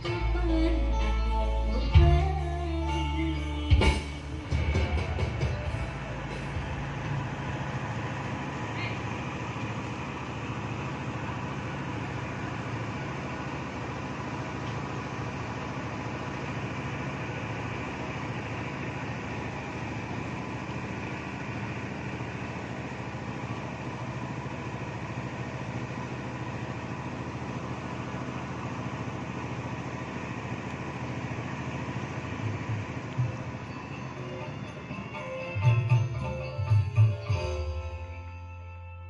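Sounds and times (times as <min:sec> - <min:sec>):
engine idling: 0:00.0 - 0:38.2.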